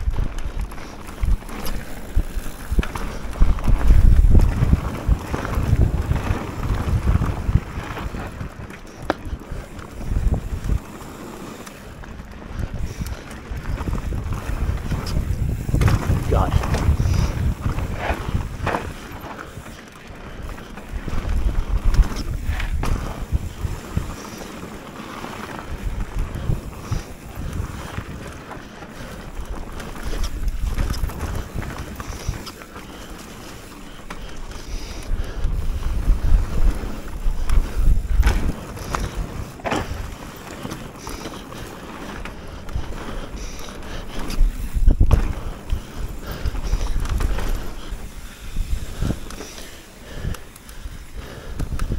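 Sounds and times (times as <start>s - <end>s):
bike knocks and rattles: 0.0s - 51.9s
tyres rumbling over dirt: 0.0s - 51.9s
wind buffeting microphone: 0.0s - 51.9s.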